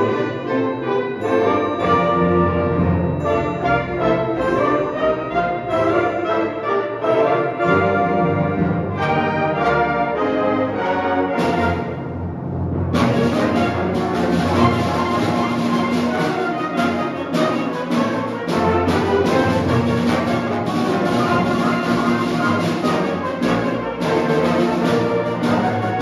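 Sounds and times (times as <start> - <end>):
concert band playing: 1.2 - 26.0.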